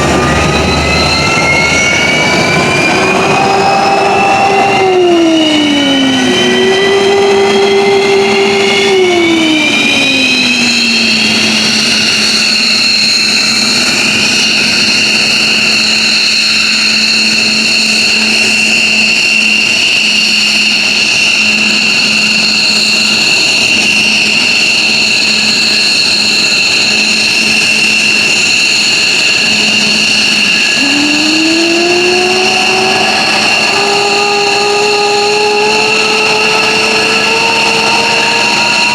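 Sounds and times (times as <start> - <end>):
jet turbine whine: 0.0 - 38.9
low engine tone: 0.0 - 38.9.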